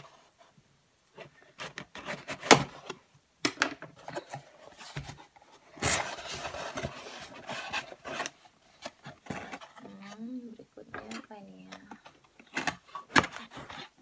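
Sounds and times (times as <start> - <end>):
packaging scraping and rustling: 1.2 - 3.0, 3.9 - 14.0.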